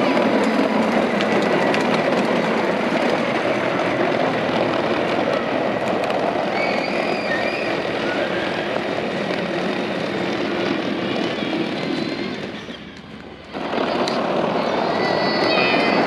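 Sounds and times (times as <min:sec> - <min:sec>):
plastic wheels rumbling on ground: 0:00.0 - 0:16.0.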